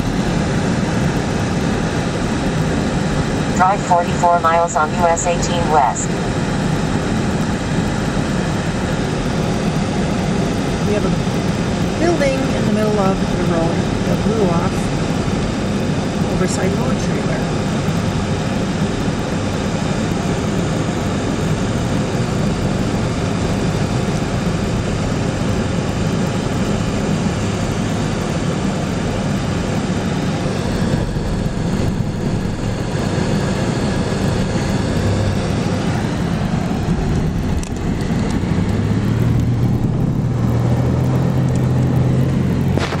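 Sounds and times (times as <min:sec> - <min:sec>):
low steady hum: 0:00.0 - 0:43.0
van engine and road noise: 0:00.0 - 0:43.0.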